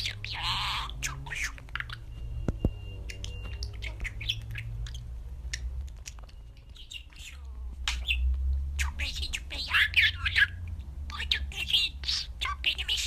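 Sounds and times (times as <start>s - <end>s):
budgerigar chirps and clicks: 0.0s - 13.0s
low steady hum: 0.0s - 13.0s.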